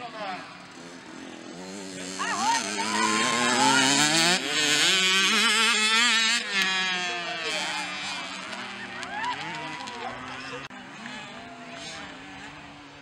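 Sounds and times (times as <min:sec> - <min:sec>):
mini motocross engines revving: 0:00.0 - 0:13.0.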